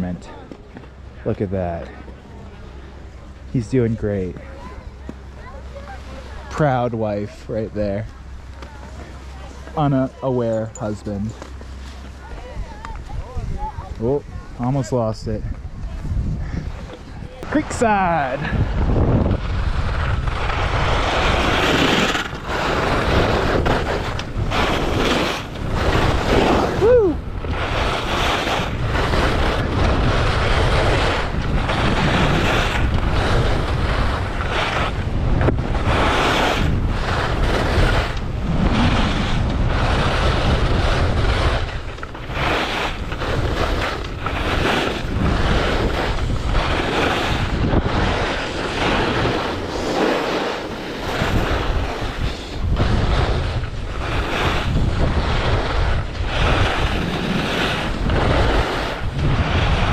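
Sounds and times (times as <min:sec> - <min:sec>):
skis scraping on snow: 0:00.0 - 0:59.9
wind blasting microphone: 0:00.0 - 0:59.9.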